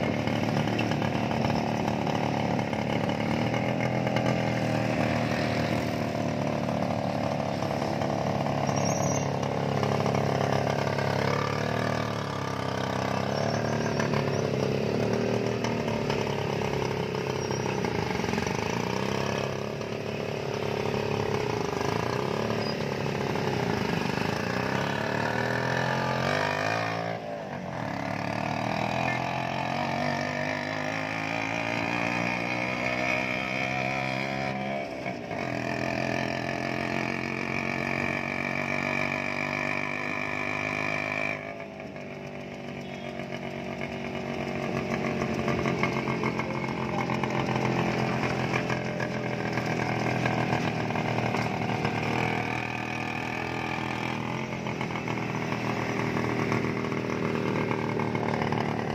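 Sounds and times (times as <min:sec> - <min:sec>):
small vehicle engines buzzing: 0:00.0 - 0:58.9.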